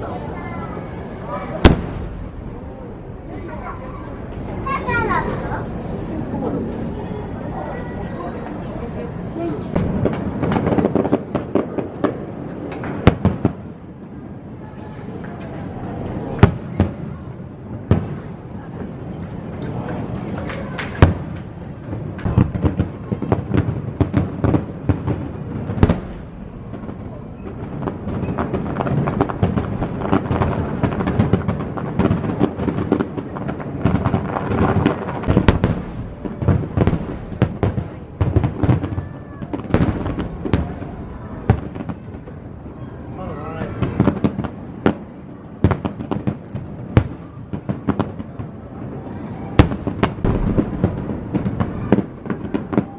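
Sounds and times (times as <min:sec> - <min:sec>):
fireworks bangs and crackling: 0:00.0 - 0:52.9
fireworks booms: 0:00.0 - 0:52.9.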